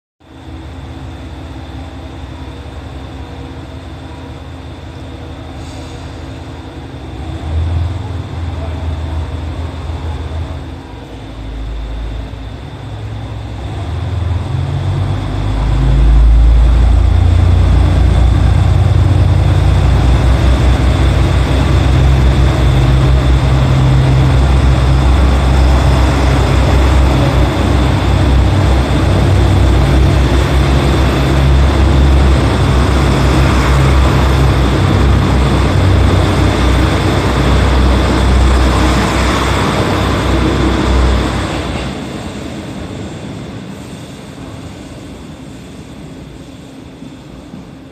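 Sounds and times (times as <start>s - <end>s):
railcar rolling noise: 0.2s - 47.9s
diesel engines droning: 0.3s - 46.2s.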